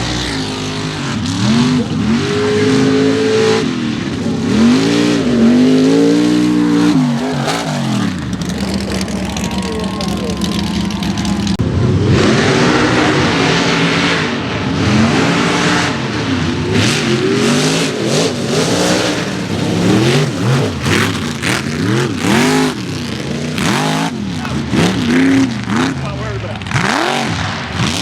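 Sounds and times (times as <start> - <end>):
truck engine revving hard: 0.0 - 28.0.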